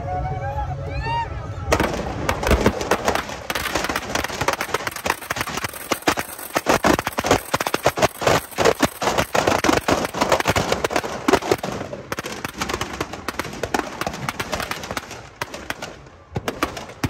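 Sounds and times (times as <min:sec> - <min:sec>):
firecrackers popping and banging: 0:01.7 - 0:17.0.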